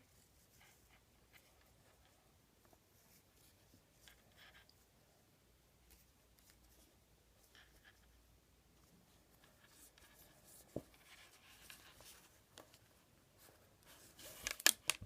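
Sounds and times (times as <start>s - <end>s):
paracord rustling and scratching: 0.0s - 15.0s.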